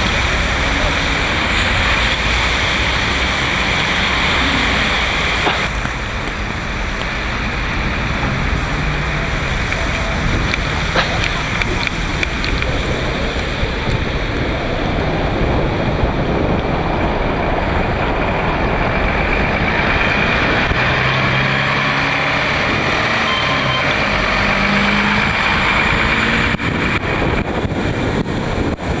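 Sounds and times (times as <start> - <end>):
bus engine drone: 0.0 - 29.0
traffic and tyres on wet street: 0.0 - 29.0.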